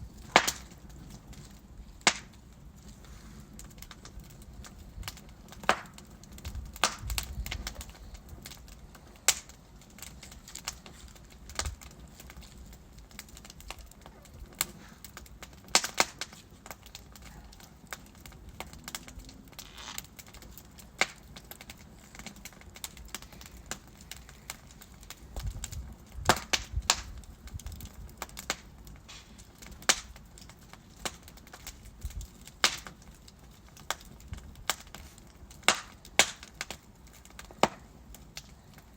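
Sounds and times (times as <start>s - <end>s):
burning logs crackling: 0.0s - 38.9s
sharp fire pops: 0.0s - 38.9s.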